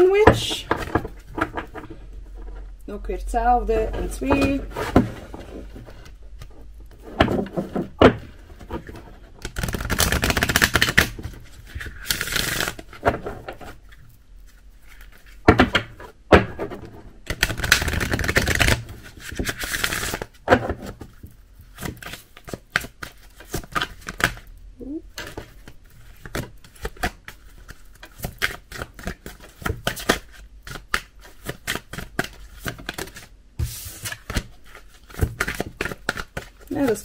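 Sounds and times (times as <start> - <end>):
cards being shuffled: 4.0 - 16.1, 17.3 - 24.5, 25.1 - 37.0.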